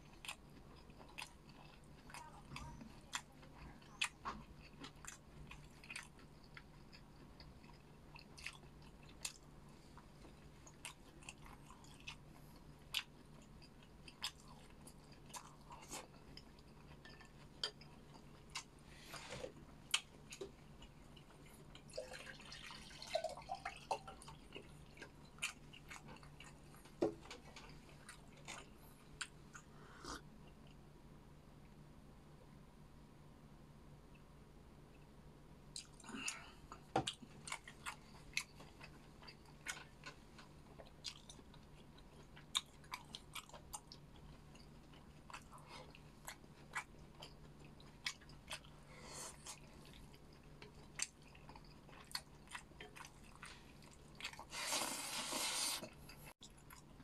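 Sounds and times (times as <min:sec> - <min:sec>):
chewing and crunching food: 0:00.0 - 0:31.0, 0:34.9 - 0:57.0
faint low hum: 0:00.0 - 0:57.0.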